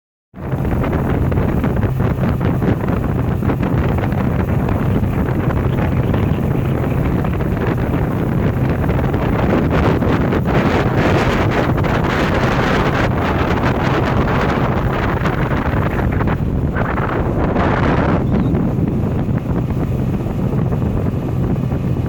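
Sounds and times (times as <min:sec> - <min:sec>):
boat engine droning: 0:00.4 - 0:22.0
wind buffeting microphone: 0:00.4 - 0:22.0.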